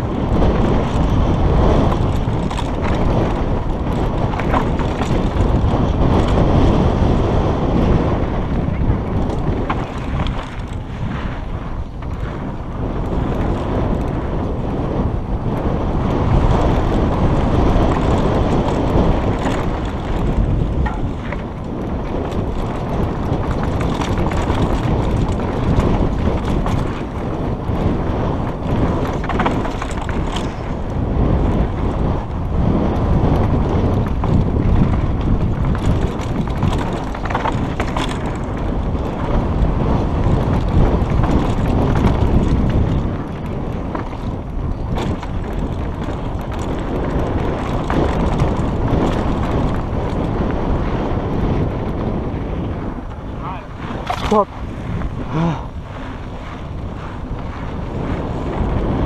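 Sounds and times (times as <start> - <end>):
bike clicks and knocks: 0.0 - 59.0
tyres rumbling on dirt: 0.0 - 59.0
wind buffeting microphone: 0.0 - 59.0.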